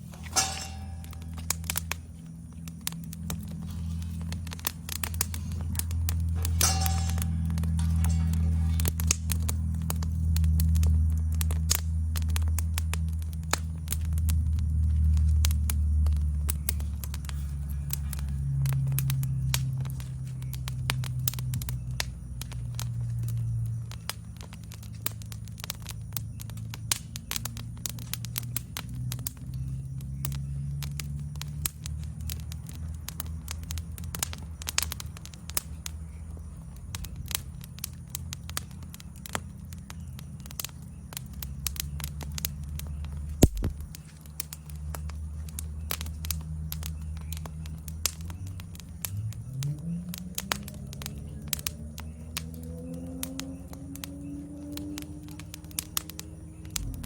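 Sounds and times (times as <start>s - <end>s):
high insect trill: 0.0s - 57.0s
wood fire crackling and popping: 0.0s - 57.0s.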